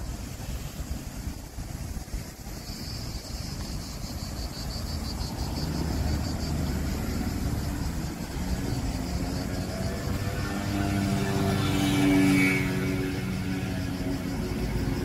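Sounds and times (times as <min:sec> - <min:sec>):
vehicle engine rumble approaching: 0:00.0 - 0:15.0.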